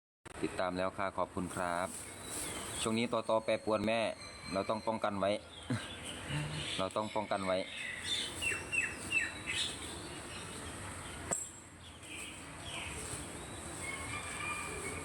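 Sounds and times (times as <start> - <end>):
small birds chirping: 1.5 - 15.0.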